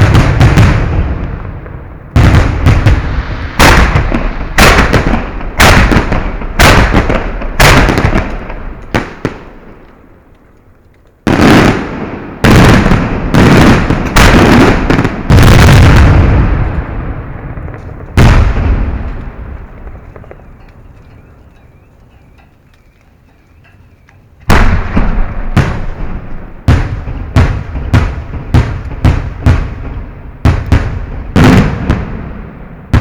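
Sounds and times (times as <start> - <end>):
fireworks blasts: 0.0 - 21.1, 24.4 - 33.0.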